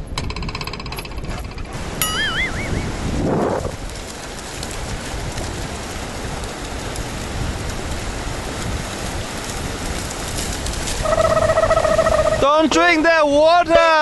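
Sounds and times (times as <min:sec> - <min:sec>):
waves breaking on shore: 0:01.7 - 0:14.0.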